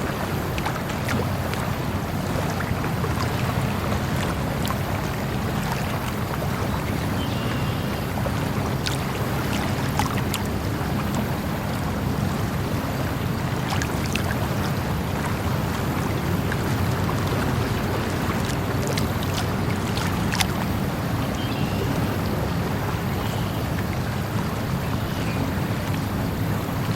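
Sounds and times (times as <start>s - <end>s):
running water: 0.0s - 26.9s
small ticks and splashes: 0.0s - 26.9s.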